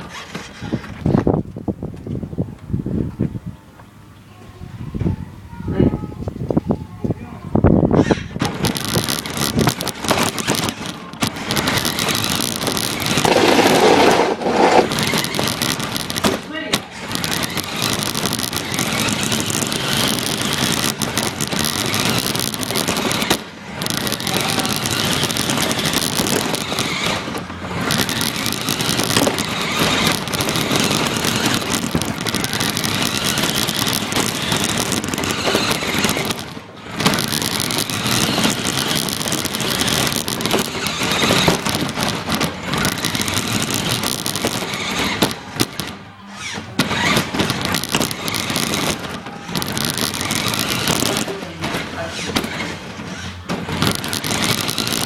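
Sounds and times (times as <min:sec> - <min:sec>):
toy car motor and tyre noise: 0:00.0 - 0:01.4, 0:07.6 - 0:55.0.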